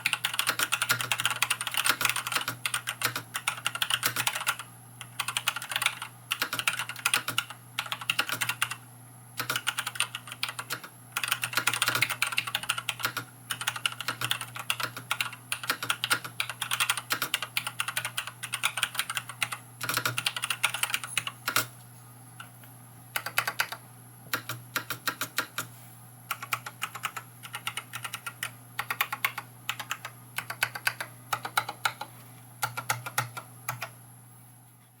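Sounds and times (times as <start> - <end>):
mechanical keyboard typing: 0.0 - 8.8, 9.4 - 21.7, 23.2 - 25.7, 26.3 - 34.0.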